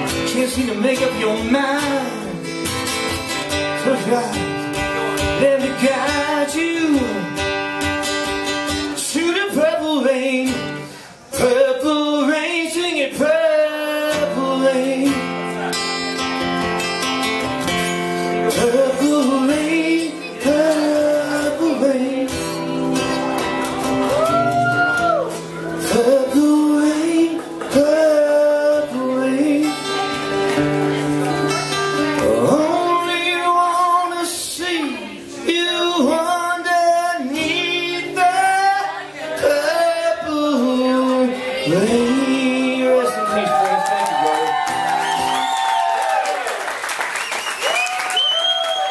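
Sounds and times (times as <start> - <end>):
man singing: 0.0 - 2.8, 3.5 - 16.1, 17.9 - 23.7, 25.2 - 44.5
strummed acoustic guitar: 0.0 - 43.2.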